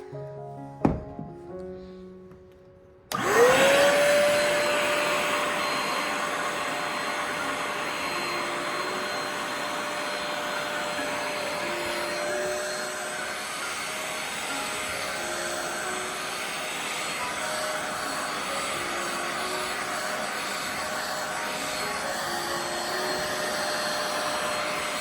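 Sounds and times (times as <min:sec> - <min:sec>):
spot cleaner suction motor whine: 0:03.1 - 0:25.0.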